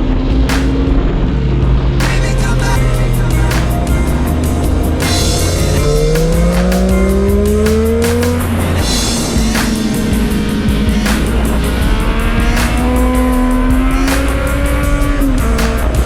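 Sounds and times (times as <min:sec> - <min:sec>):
motorcycle engine accelerating: 0:00.0 - 0:16.0
music with steady beat: 0:00.0 - 0:16.0.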